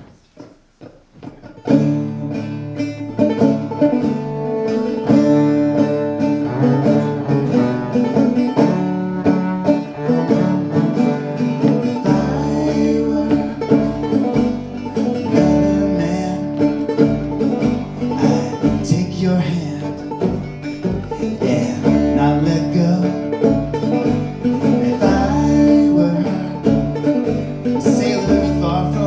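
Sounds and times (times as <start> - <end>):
plucked string instrument: 0.0 - 29.0
upright bass notes: 1.6 - 29.0.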